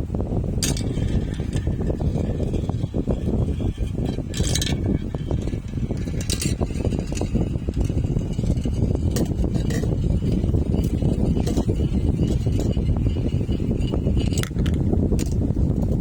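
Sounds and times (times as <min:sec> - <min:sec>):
marbles clinking: 0:00.6 - 0:15.4
marbles rolling on track: 0:00.6 - 0:16.0.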